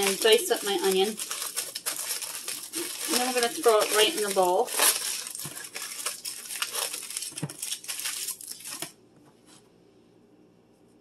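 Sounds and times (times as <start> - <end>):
aluminium foil crinkling: 0.0 - 9.0.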